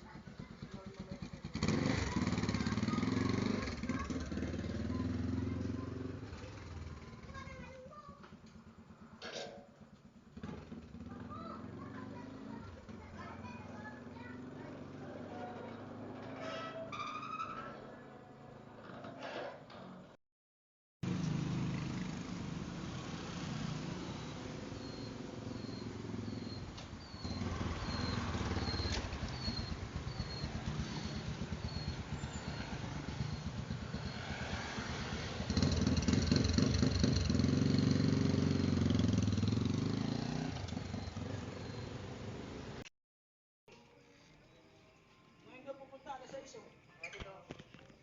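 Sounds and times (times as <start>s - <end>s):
motorcycle engine rumbling: 0.0s - 19.0s, 21.0s - 42.8s.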